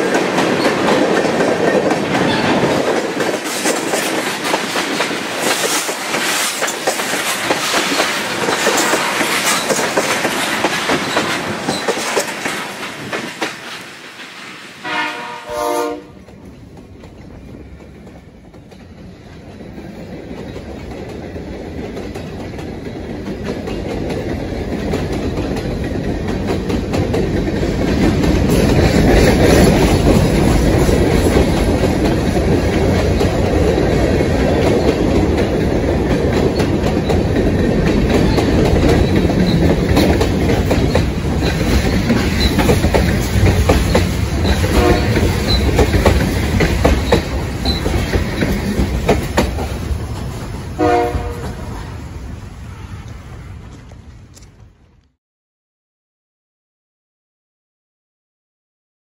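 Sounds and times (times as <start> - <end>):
wheels clicking over rail joints: 0.0 - 14.5, 16.3 - 50.6
diesel freight train passing: 0.0 - 55.1.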